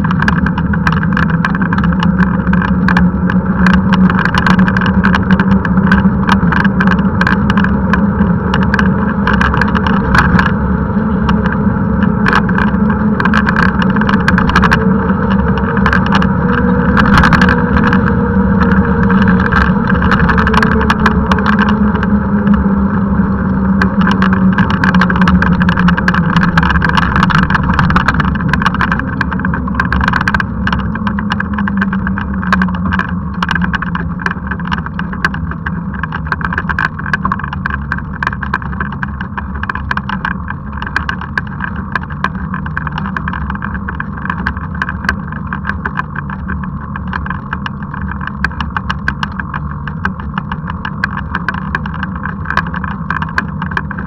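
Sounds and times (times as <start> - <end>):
handcycle clicks and rattles: 0.0 - 54.0
wind and road noise: 0.0 - 54.0.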